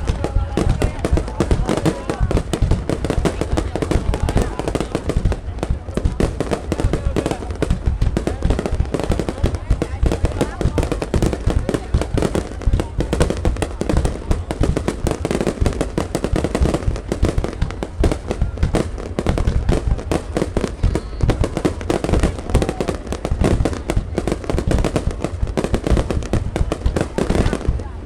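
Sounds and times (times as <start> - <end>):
fireworks bursts and bangs: 0.0 - 28.0.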